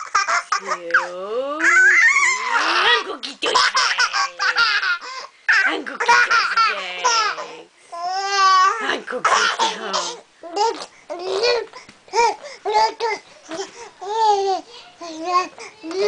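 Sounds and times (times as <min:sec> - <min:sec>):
baby babbling and laughing: 0:00.0 - 0:16.0.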